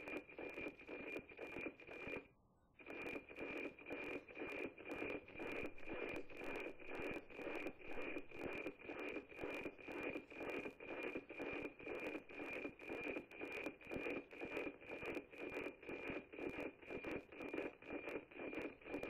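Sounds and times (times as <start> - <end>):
satellite signal tick-tock tone: 0.0 - 19.0.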